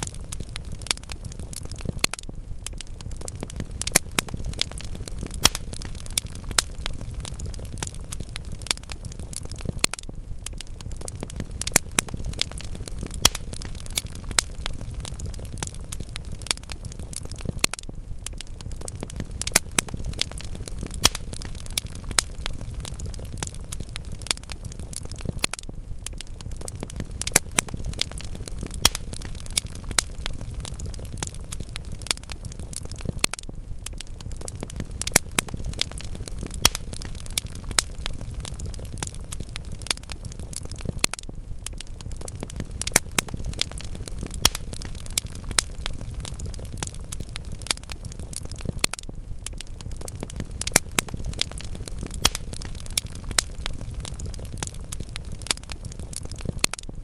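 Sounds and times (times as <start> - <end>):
wood fire burning: 0.0 - 57.0.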